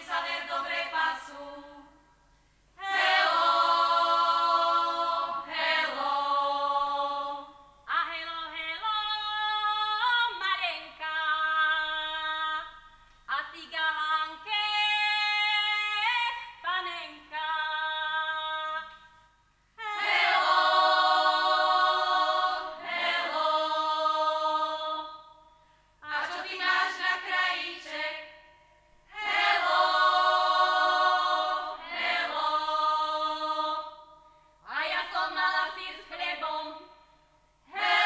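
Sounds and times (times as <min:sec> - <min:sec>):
women singing a cappella: 0:00.0 - 0:38.0.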